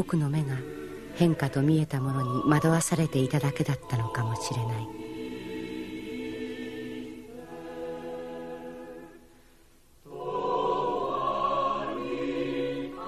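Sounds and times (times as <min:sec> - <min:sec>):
choir singing a hymn: 0:00.0 - 0:09.3, 0:10.1 - 0:13.0.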